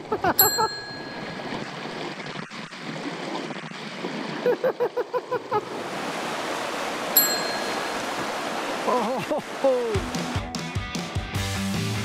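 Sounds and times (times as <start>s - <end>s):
water rushing over rocks: 0.1s - 10.4s.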